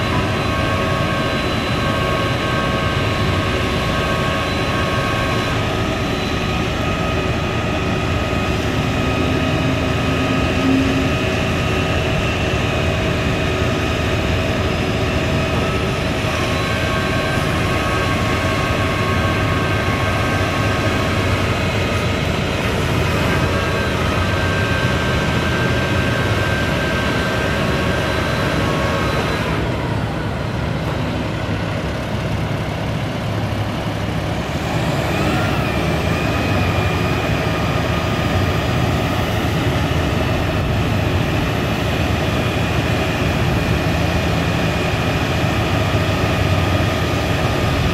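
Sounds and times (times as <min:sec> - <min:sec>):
diesel truck engine running: 0:00.0 - 0:47.9
high-pitched whine: 0:00.0 - 0:47.9.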